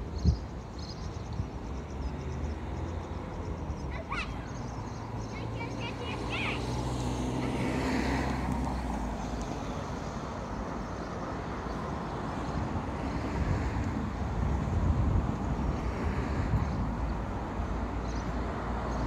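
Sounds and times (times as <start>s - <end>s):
tram low rumble: 0.0s - 19.0s.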